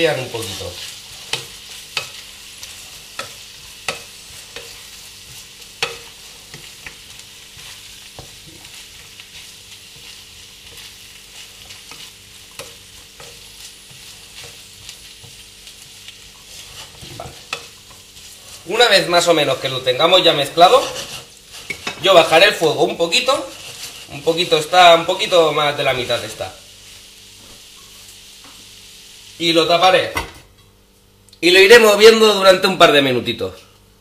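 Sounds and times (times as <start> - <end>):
food sizzling in a frying pan: 0.0 - 30.4.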